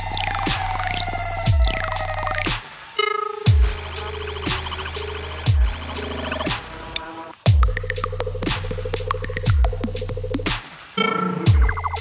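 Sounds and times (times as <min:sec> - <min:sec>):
electronic music with a beat: 0:00.0 - 0:12.0.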